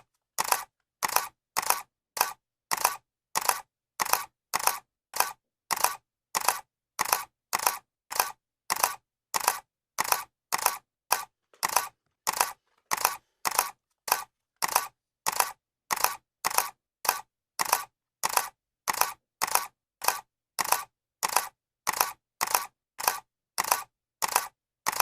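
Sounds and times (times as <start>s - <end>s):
camera shutter clicking: 0.4s - 25.0s.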